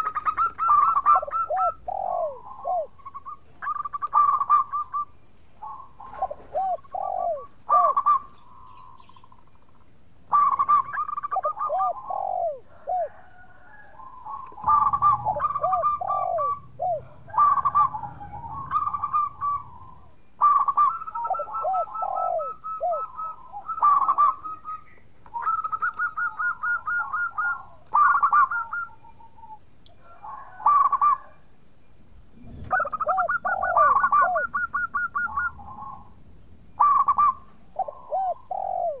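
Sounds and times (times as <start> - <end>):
dove cooing: 0.0 - 9.6, 10.3 - 31.4, 32.4 - 36.2, 36.8 - 39.0
dove singing rattling notes: 0.0 - 39.0.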